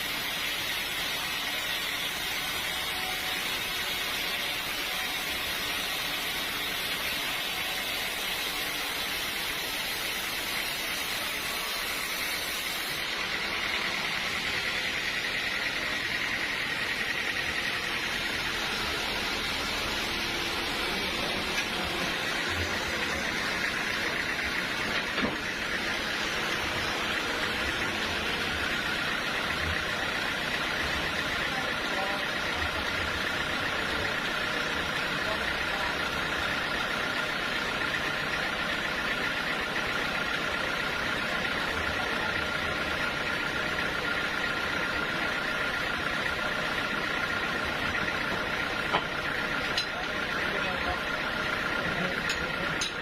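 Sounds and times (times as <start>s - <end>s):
sawmill machinery hissing: 0.0s - 53.0s.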